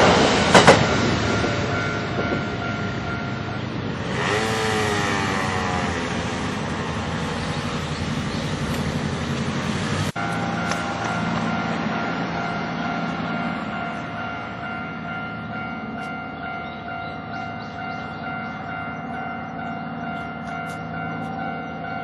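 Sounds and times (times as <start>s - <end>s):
crossing warning bell ringing: 0.0s - 9.1s, 10.1s - 22.0s
train wheels on rails: 0.0s - 22.0s.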